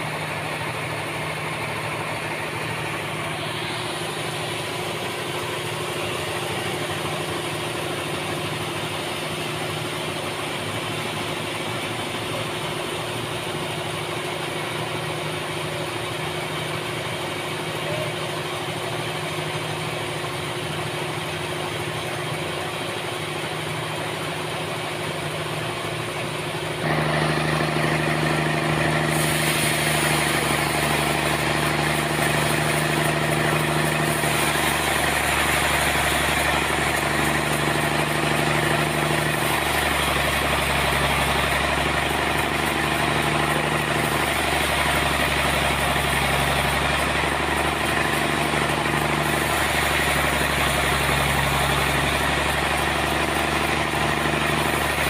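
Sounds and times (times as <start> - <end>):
band sawmill machinery humming: 0.0 - 55.0.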